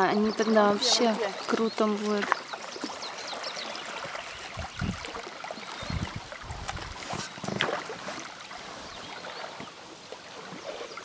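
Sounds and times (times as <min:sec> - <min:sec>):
paddles knocking and splashing: 0:00.0 - 0:11.0.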